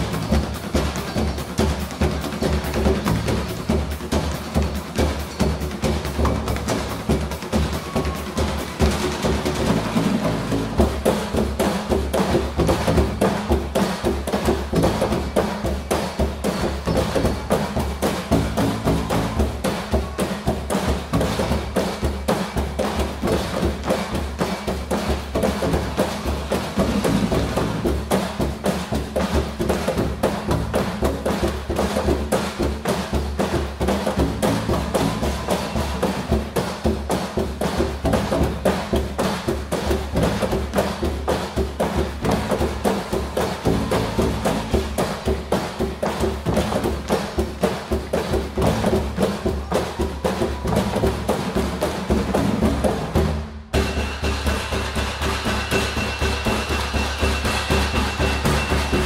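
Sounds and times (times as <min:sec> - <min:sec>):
percussion ensemble drumming: 0:00.0 - 0:59.0.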